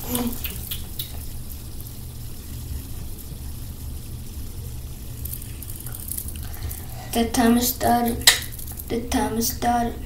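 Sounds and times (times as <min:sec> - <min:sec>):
fidget spinner whirring: 0:00.0 - 0:10.0.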